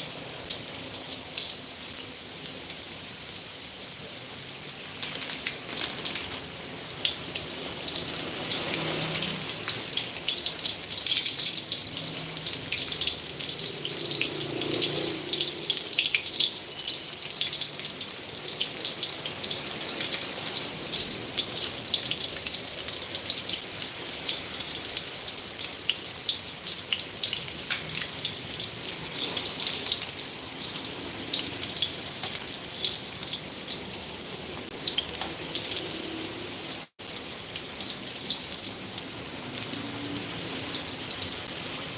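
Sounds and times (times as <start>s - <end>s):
meatballs sizzling in oil: 0.0s - 41.9s.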